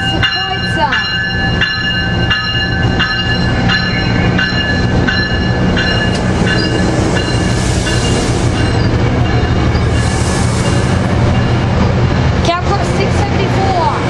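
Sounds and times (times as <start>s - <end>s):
train bell ringing: 0.0s - 11.8s
diesel locomotive drone: 0.0s - 14.0s
rail noise: 0.0s - 14.0s.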